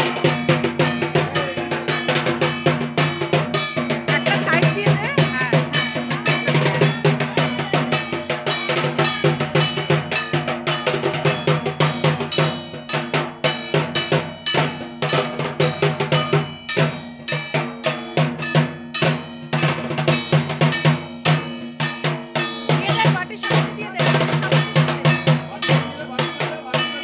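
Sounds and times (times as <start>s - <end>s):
fast drumming: 0.0s - 27.0s
metal gong clanging: 0.0s - 27.0s.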